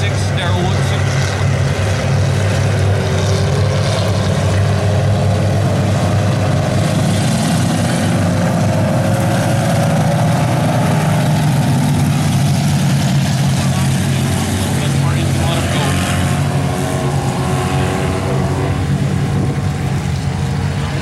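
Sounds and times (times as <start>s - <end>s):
race car engines roaring: 0.0s - 21.0s.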